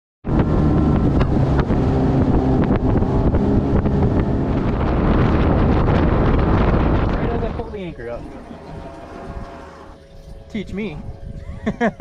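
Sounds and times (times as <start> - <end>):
outboard motor drone: 0.2 - 12.0
wind buffeting microphone: 0.3 - 12.0.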